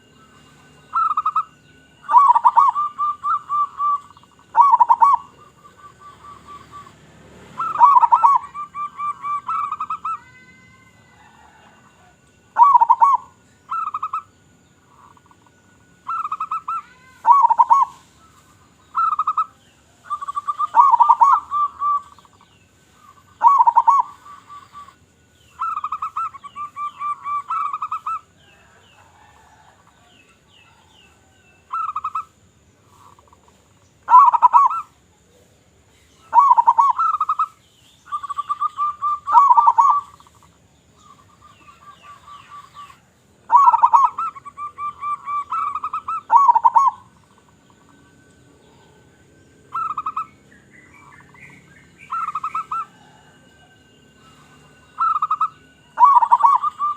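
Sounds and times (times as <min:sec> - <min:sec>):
high bird chirps: 0:00.0 - 0:35.0, 0:35.9 - 0:56.9
doves cooing: 0:00.0 - 0:56.9.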